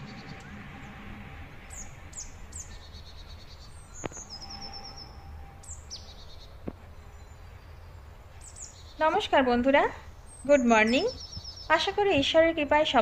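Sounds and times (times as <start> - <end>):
steady low rumble: 0.0 - 12.1
small birds chirping: 0.0 - 13.0.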